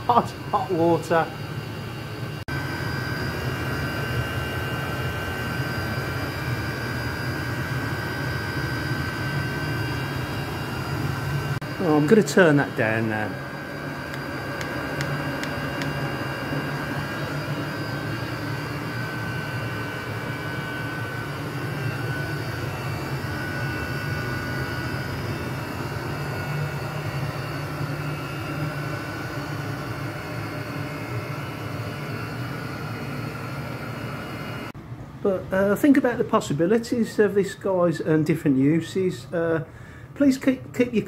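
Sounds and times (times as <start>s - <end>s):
heater blower rushing: 0.0s - 37.2s
thin steady whine: 0.0s - 41.0s.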